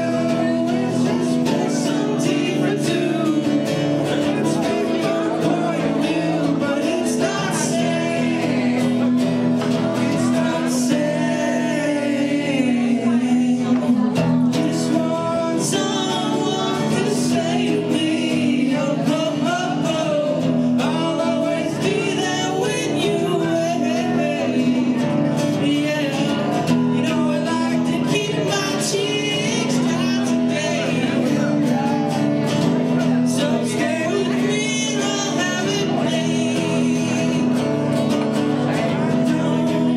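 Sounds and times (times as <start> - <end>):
acoustic guitar: 0.0 - 39.9
person singing: 0.0 - 39.9.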